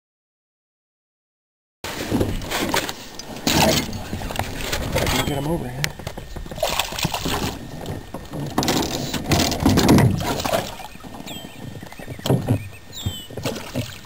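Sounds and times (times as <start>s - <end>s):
water splashing against boat: 1.9s - 14.0s.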